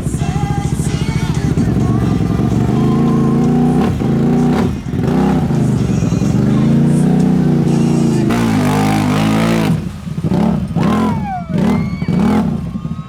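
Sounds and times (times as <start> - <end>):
vehicle engine revving hard: 0.0 - 13.0.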